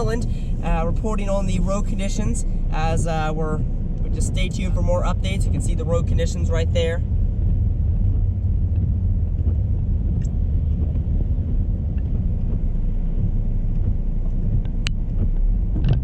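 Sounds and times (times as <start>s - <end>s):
car driving low rumble: 0.0s - 16.0s.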